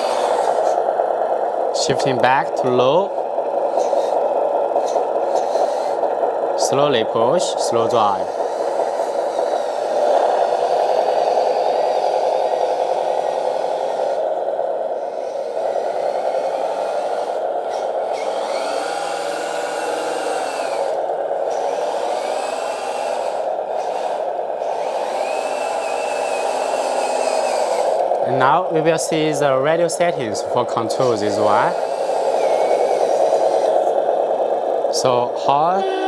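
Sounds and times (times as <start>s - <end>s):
electronic engine sound from speaker: 0.0s - 0.9s, 1.5s - 36.0s
faint whine: 0.0s - 36.0s
toy motor and gears whirring: 0.0s - 36.0s.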